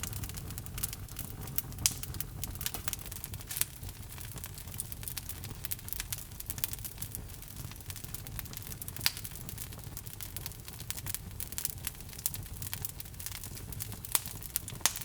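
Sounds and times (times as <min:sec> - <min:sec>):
fire crackles and snaps: 0:00.0 - 0:15.0
low rumble of flames: 0:00.0 - 0:15.0.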